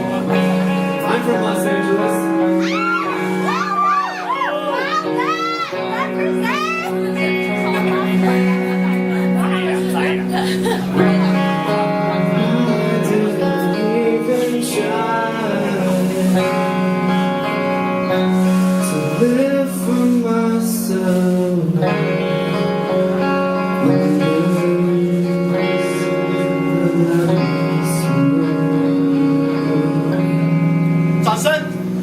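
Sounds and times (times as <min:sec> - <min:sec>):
guitar chords: 0:00.0 - 0:32.0
person singing: 0:02.2 - 0:09.4, 0:11.0 - 0:22.9, 0:23.6 - 0:30.6.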